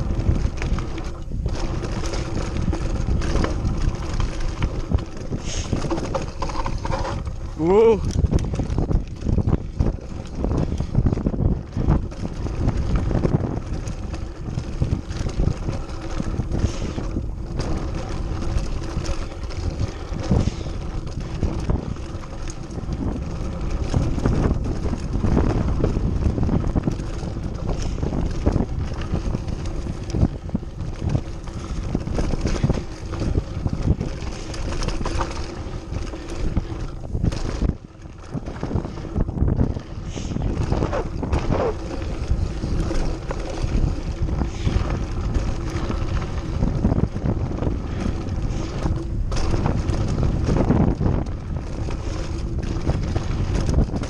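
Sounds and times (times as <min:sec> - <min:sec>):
bike knocks and rattles: 0:00.0 - 0:54.0
bike tyres rolling on dirt: 0:00.0 - 0:54.0
wind buffeting microphone: 0:00.0 - 0:54.0.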